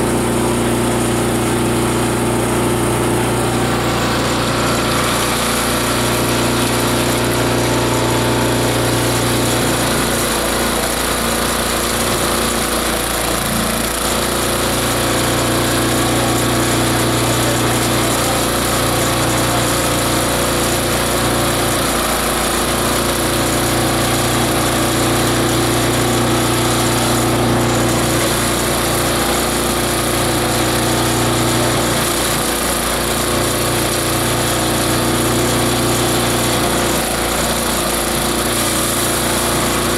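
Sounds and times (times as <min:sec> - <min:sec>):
grinder machine drone: 0:00.0 - 0:39.9.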